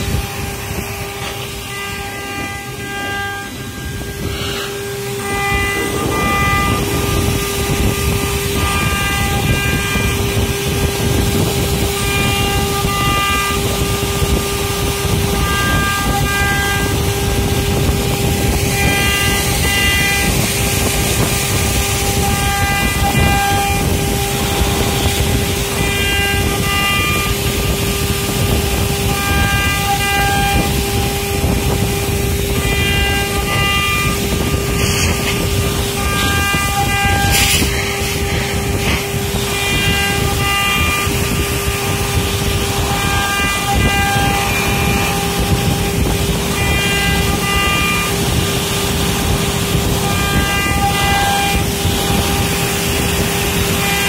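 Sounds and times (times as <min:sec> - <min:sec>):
bit cutting wood: 0:00.0 - 0:54.0
router spindle whine: 0:00.0 - 0:54.0
short whining motor tones: 0:00.0 - 0:54.0.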